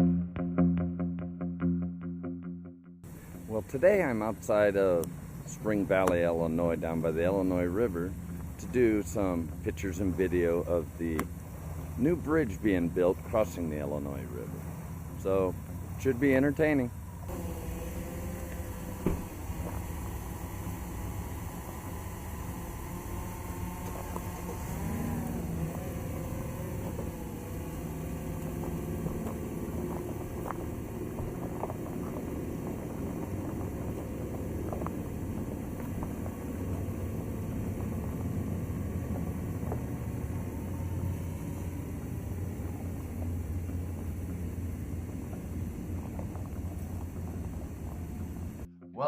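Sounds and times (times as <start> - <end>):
low engine rumble: 3.0 - 49.0.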